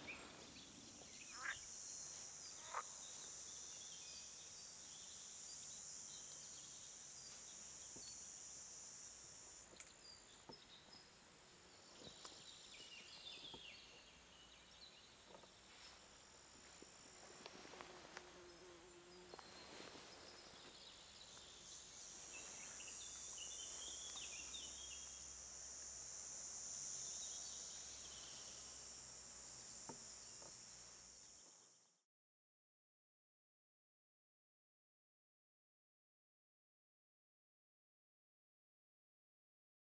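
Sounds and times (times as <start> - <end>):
crickets buzzing: 0.0 - 32.0.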